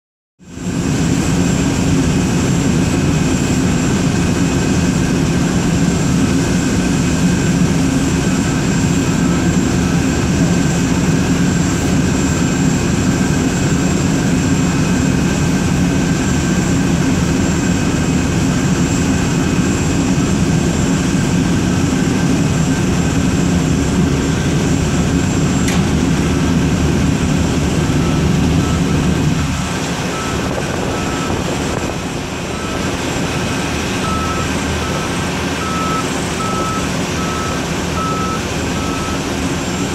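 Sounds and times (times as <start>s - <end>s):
high turbine whines: 0.4s - 39.9s
jet turbine rumble: 0.4s - 39.9s.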